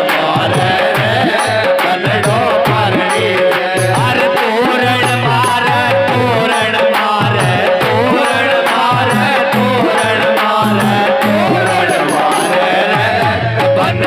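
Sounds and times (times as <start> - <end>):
hand drum beating rhythm: 0.0 - 14.0
keyboard organ melody: 1.6 - 14.0.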